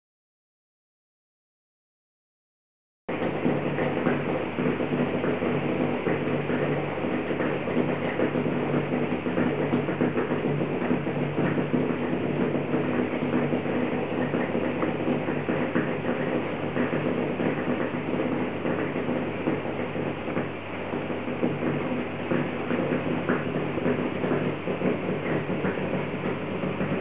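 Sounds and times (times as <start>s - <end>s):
aquarium pumps humming: 3.1s - 27.0s
circulating water: 3.1s - 27.0s.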